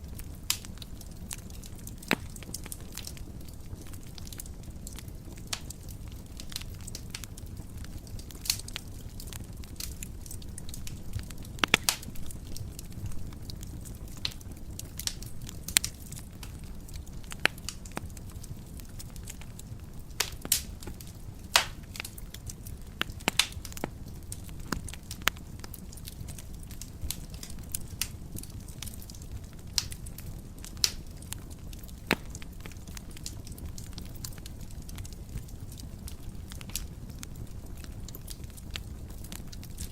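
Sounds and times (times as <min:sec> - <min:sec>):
fire burning with crackles: 0:00.0 - 0:39.9.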